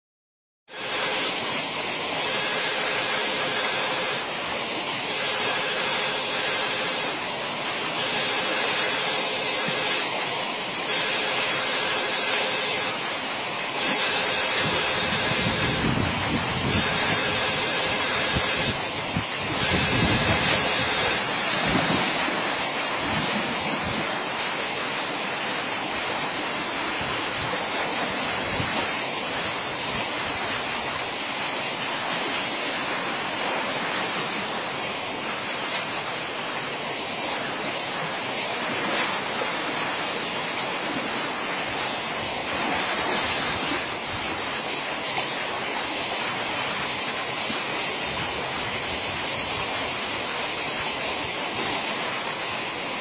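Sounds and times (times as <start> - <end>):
stream flowing: 0.7 - 53.0.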